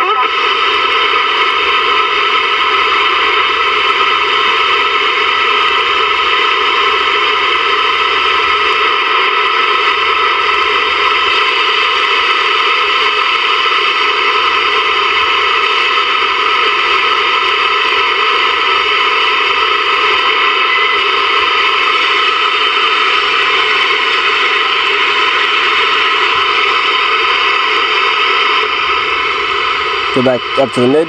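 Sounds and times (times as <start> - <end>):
radio static hiss: 0.0 - 31.0.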